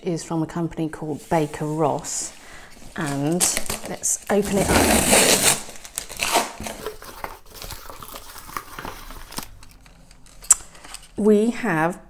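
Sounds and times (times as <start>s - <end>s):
cardboard and packing rustling: 1.2s - 11.2s.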